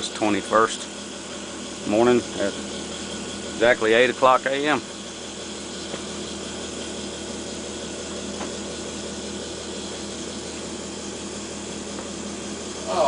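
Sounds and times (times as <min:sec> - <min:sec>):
gas turbine hiss and hum: 0:00.0 - 0:13.0.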